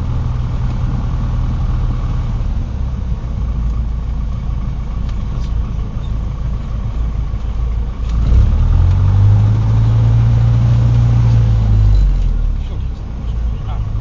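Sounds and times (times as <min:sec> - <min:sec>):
propeller plane engine drone: 0:00.0 - 0:14.0
steady low hum: 0:00.0 - 0:14.0.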